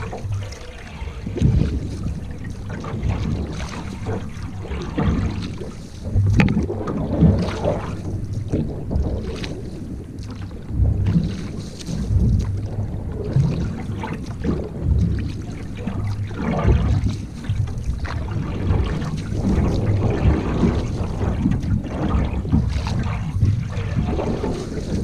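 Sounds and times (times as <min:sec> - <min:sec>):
low rumble: 0:00.0 - 0:25.0
water splashing from canoe: 0:00.0 - 0:25.0
wind buffeting microphone: 0:00.0 - 0:25.0.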